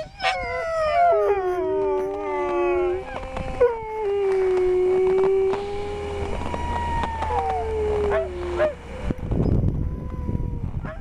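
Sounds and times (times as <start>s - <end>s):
huskies howling: 0.0s - 11.0s.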